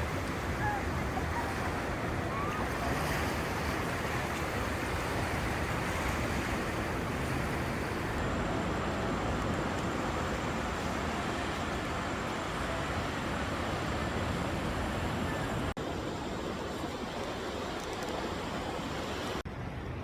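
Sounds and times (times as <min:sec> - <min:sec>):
ocean surf on beach: 0:00.0 - 0:20.0.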